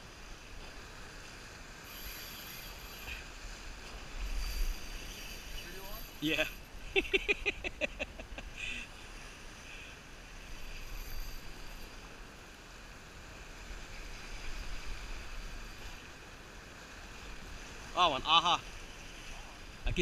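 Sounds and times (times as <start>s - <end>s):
surf washing over rocks: 0.0s - 20.0s.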